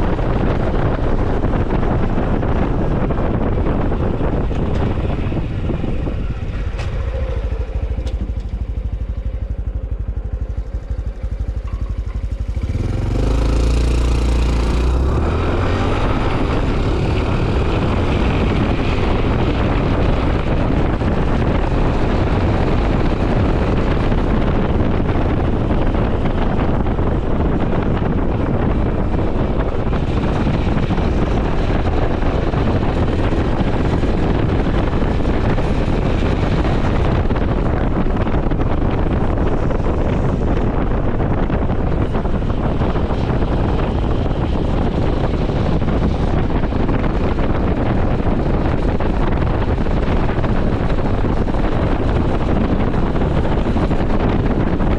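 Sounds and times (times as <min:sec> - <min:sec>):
motorcycle engine: 0:00.0 - 0:54.9
wind noise on microphone: 0:00.0 - 0:54.9.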